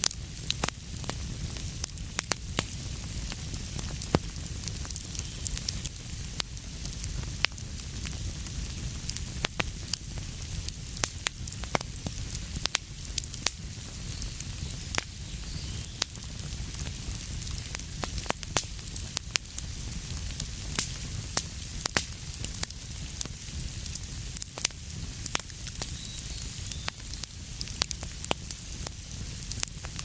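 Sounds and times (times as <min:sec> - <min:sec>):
fire crackles and pops: 0:00.0 - 0:30.0
wood fire rumble and hiss: 0:00.0 - 0:30.0.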